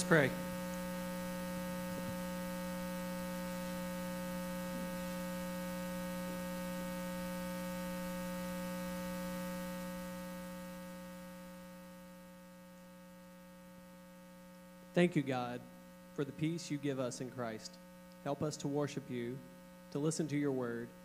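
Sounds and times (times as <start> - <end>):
electrical mains hum and buzz: 0.0 - 21.0.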